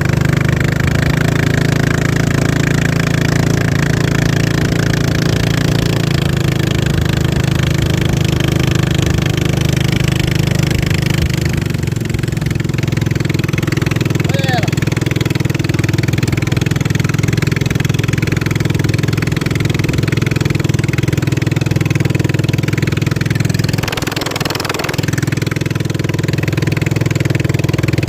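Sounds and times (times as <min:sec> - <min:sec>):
boat motor running at high power: 0:00.0 - 0:28.0.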